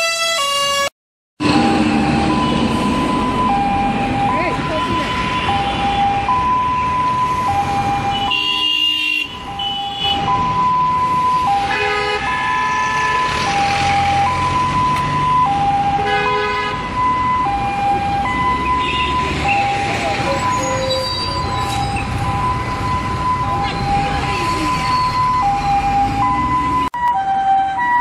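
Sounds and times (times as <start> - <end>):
ambulance two-tone siren: 0.0 - 28.0
traffic engine rumble: 1.4 - 8.5, 9.3 - 28.0.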